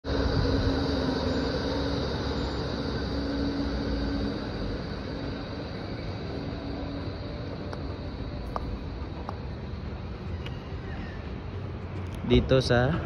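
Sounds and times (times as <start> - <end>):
vehicle humming with whine: 0.0 - 13.0.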